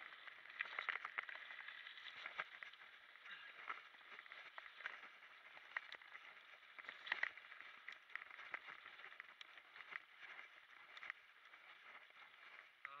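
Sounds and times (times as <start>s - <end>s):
bike rattling and clicking: 0.0s - 12.9s
bike tyres crackling on dirt: 0.0s - 13.0s.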